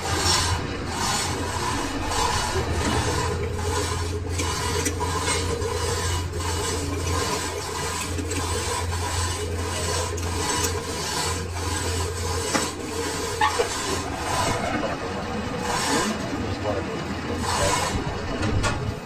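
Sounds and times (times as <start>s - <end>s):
tool rasping on steel shaft: 0.0s - 18.7s
lathe humming: 0.0s - 19.0s.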